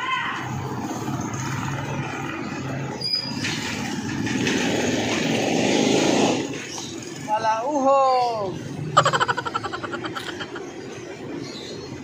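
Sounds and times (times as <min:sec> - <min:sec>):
vehicle passing: 0:00.4 - 0:12.0.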